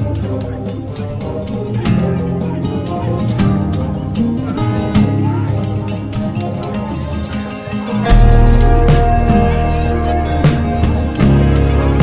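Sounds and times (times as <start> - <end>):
music with beat and deep bass: 0.0 - 12.0.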